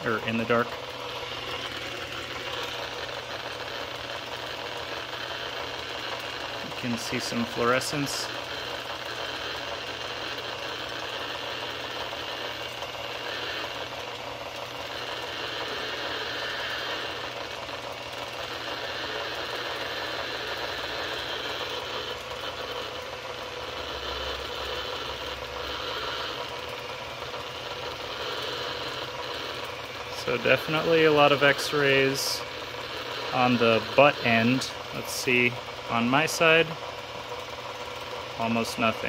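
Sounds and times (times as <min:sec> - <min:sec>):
vacuum pump running: 0:00.0 - 0:39.0.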